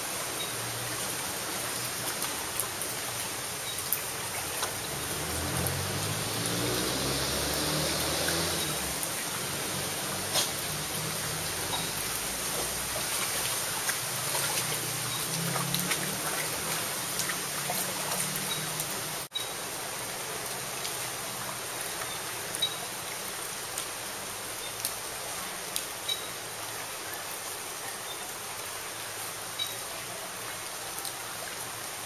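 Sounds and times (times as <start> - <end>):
rain falling on water and foliage: 0.0 - 32.0
water drips and splashes: 0.0 - 32.0.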